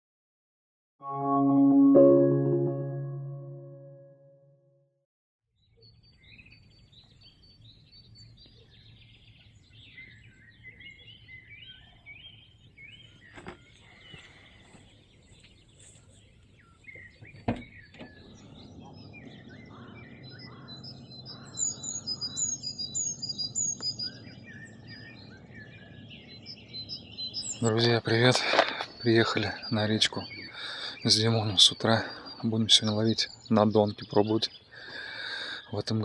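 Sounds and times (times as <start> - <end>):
songbirds chirping: 5.6 - 36.0.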